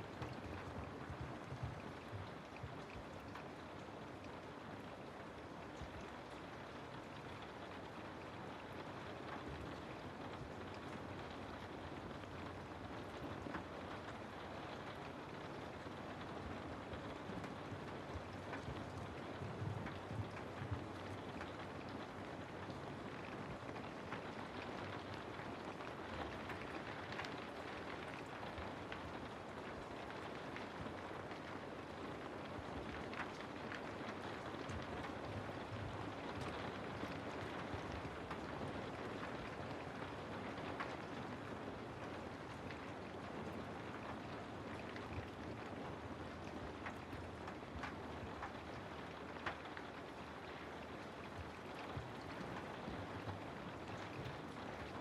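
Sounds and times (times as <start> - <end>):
rain hissing through trees: 0.0 - 55.0.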